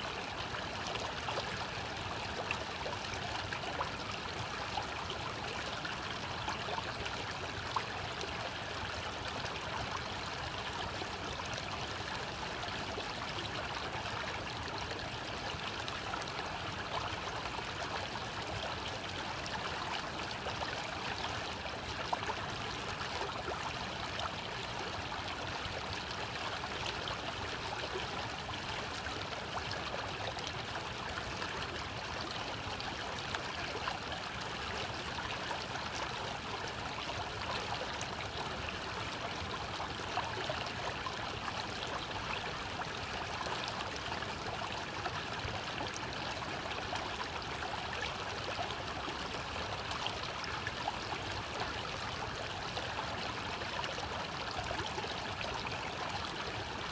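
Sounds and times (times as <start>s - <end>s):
stream babbling over stones: 0.0s - 56.9s.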